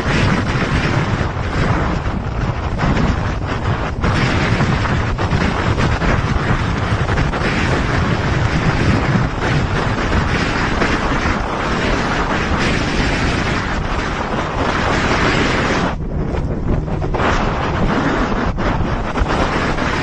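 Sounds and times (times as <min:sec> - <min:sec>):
boat pounding through water: 0:00.0 - 0:20.0
waves and spray: 0:00.0 - 0:20.0
wind buffeting microphone: 0:00.0 - 0:20.0.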